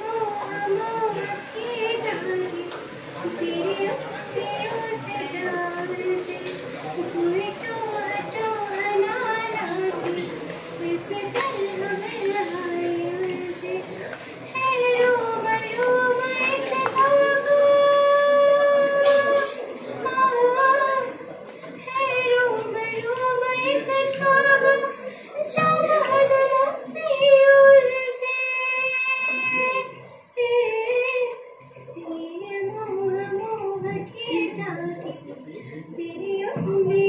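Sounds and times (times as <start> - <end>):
woman singing unaccompanied: 0.0 - 21.2, 21.8 - 37.0.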